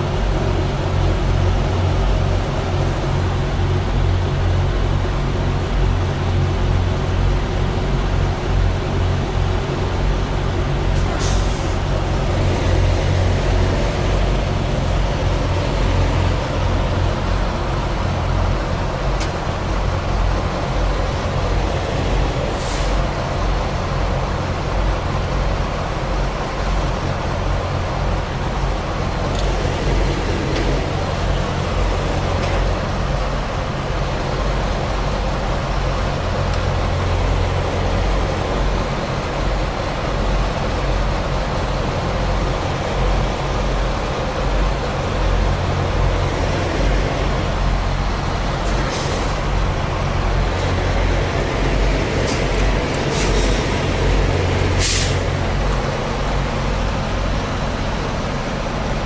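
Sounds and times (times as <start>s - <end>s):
diesel truck engine rumbling: 0.0s - 59.0s.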